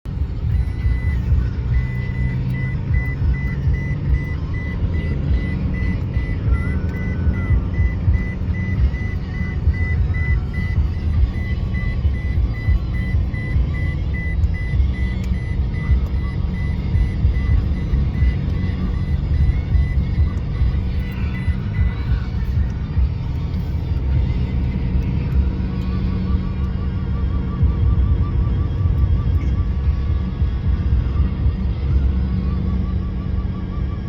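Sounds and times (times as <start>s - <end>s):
engine low rumble: 0.0s - 34.0s.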